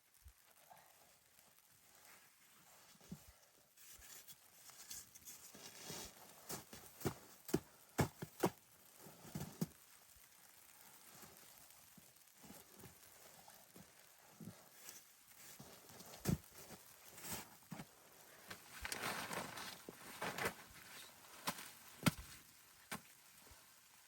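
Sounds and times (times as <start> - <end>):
faint background hiss: 0.0 - 24.0.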